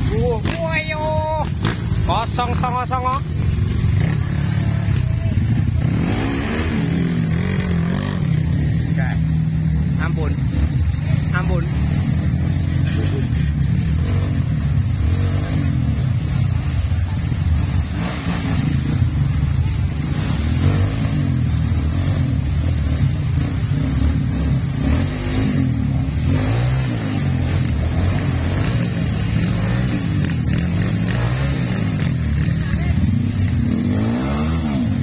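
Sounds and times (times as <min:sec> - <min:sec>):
motorcycle engine at low revs: 0:00.0 - 0:35.0.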